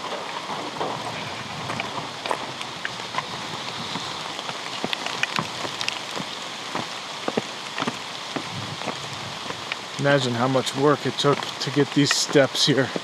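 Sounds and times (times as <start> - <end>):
rain hissing: 0.0 - 13.0
raindrops tapping: 0.0 - 13.0.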